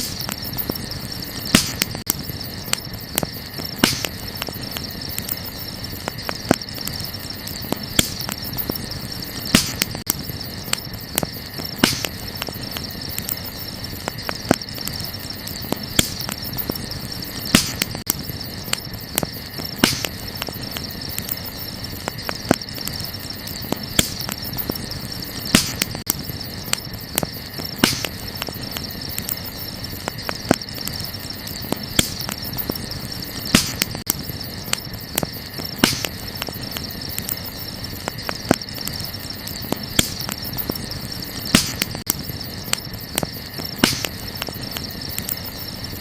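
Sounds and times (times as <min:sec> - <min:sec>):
campfire crackling and popping: 0:00.0 - 0:46.0
crickets chirring: 0:00.0 - 0:46.0.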